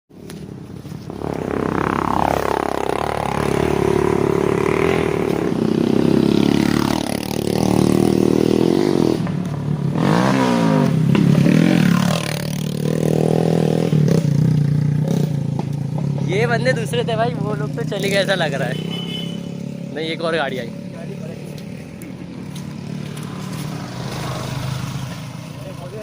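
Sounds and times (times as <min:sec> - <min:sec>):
motorcycle engines revving: 0:00.1 - 0:26.0.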